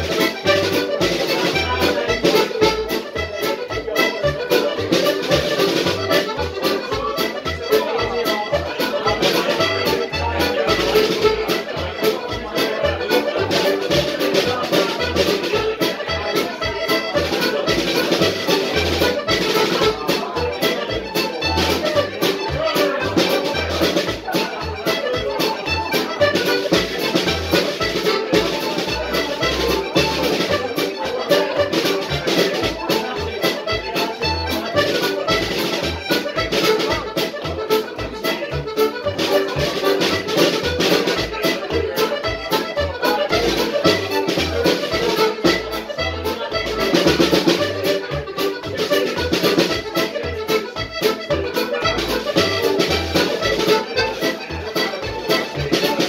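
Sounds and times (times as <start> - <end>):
piano accordion playing fast tune: 0.0 - 56.0.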